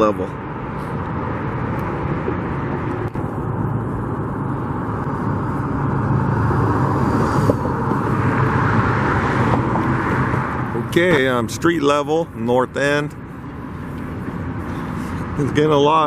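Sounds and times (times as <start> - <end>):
road traffic with engine hum: 0.0 - 16.0.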